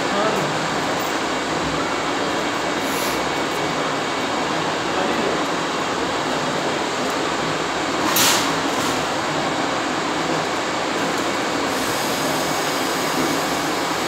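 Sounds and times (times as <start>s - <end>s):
cooling fans whirring: 0.0s - 14.0s.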